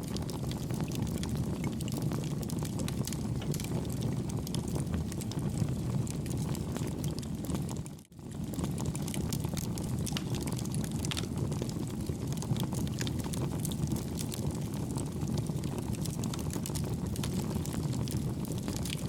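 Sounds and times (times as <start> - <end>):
campfire crackling and popping: 0.0 - 19.0
low rumble of fire: 0.0 - 19.0.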